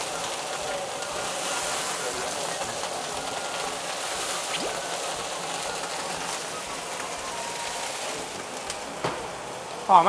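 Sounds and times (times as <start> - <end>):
food sizzling in a wok: 0.0 - 10.0.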